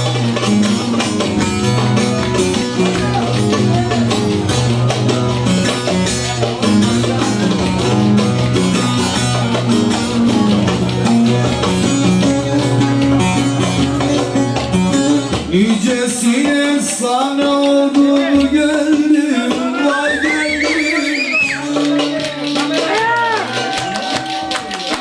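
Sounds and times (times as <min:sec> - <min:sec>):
plucked string instruments melody: 0:00.0 - 0:25.0
steady beat: 0:00.0 - 0:25.0.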